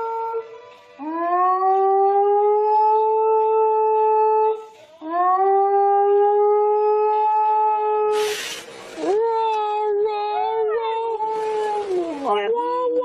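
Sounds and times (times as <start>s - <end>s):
dog howling: 0.0s - 8.2s, 9.0s - 12.4s.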